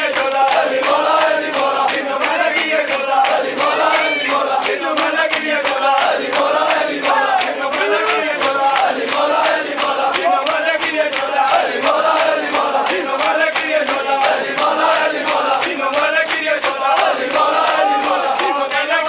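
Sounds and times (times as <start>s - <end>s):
hands slapping bare chests: 0.0s - 19.0s
men chanting: 0.0s - 19.0s.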